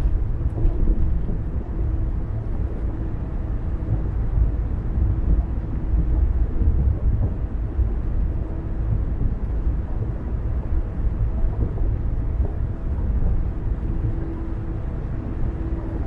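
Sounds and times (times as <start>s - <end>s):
car tyre and engine rumble: 0.0s - 16.0s.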